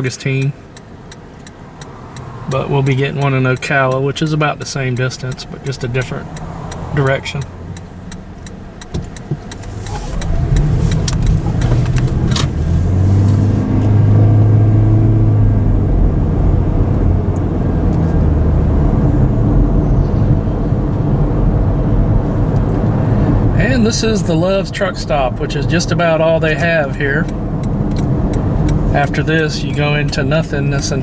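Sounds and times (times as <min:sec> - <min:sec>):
road noise inside car: 0:00.0 - 0:31.0
car engine accelerating: 0:01.4 - 0:31.0.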